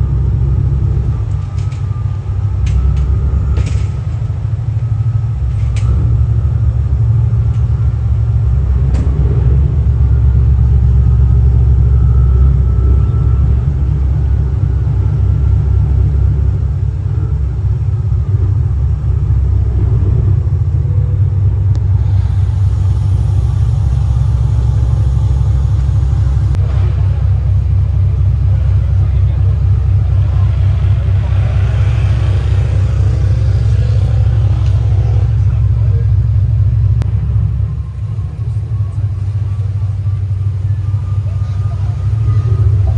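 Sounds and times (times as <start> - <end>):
yacht engines rumbling: 0.0 - 42.9.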